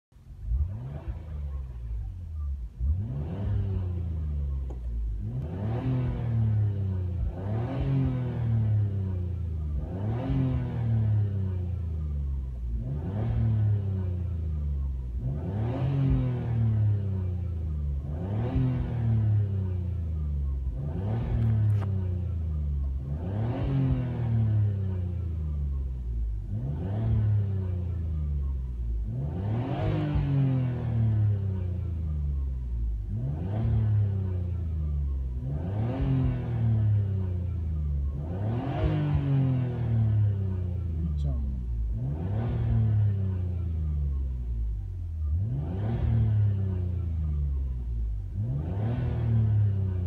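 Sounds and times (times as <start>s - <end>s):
car engine revving: 0.2s - 50.0s.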